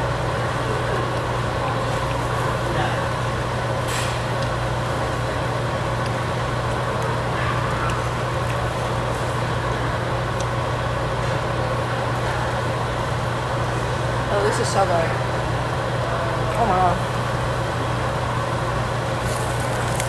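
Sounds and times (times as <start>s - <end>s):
ventilation hood humming: 0.0s - 20.0s.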